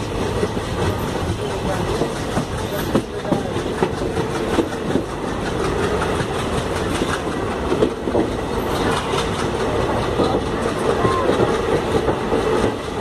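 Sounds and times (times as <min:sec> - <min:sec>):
train wheels rumbling on rails: 0:00.0 - 0:13.0
wheels clicking over track: 0:00.0 - 0:13.0.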